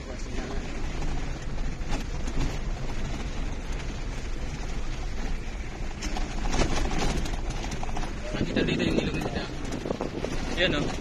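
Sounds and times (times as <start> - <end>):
engine and road rumble: 0.0 - 11.0
wind noise: 0.9 - 11.0.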